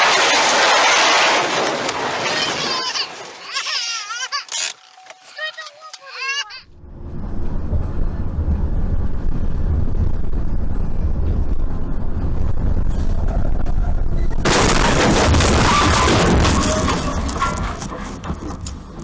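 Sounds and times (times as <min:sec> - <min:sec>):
loud rushing crackling din: 0:00.0 - 0:04.3, 0:07.0 - 0:19.0
car road and engine rumble: 0:00.0 - 0:19.0.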